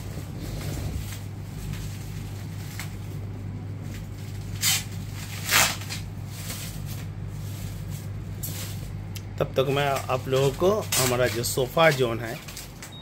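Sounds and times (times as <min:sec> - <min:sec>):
plastic wrapping crinkling: 0:00.0 - 0:12.9
sharp plastic crackles: 0:00.0 - 0:13.0
steady low hum: 0:00.0 - 0:13.0.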